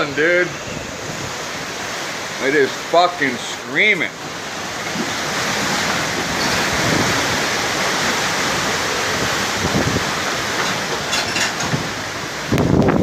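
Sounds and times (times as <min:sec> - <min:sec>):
wind howling: 0:00.0 - 0:13.0.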